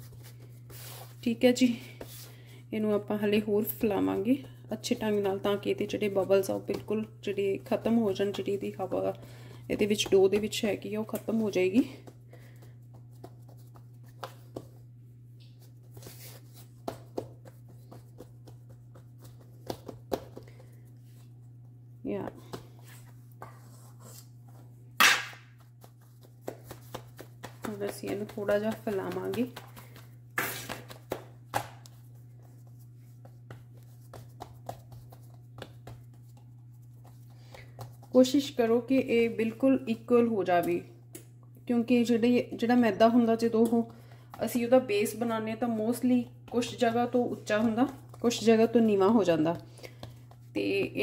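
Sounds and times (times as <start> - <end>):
hands patting dough: 0.0 - 51.0
steady low hum: 0.0 - 51.0.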